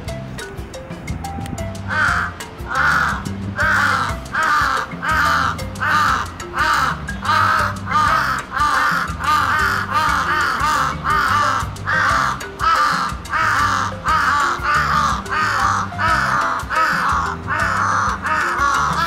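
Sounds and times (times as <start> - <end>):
background music with bass: 0.0 - 19.0
crow cawing: 1.9 - 19.0.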